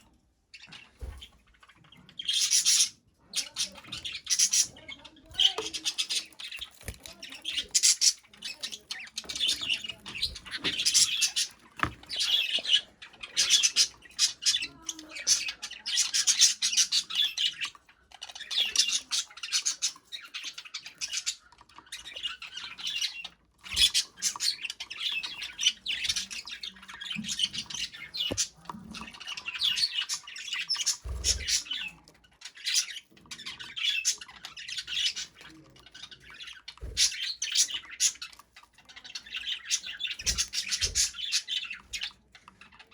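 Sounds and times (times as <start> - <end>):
budgerigar warbling and chattering: 2.0 - 42.9.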